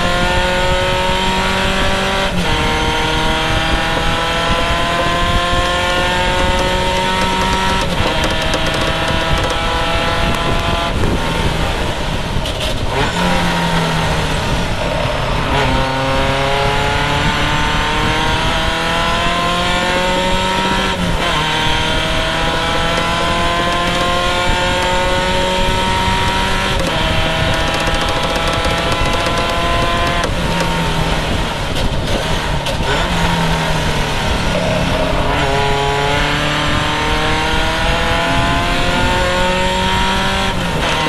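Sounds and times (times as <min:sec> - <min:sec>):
race car engine revving: 0:00.0 - 0:41.0
wind and road rush: 0:00.0 - 0:41.0.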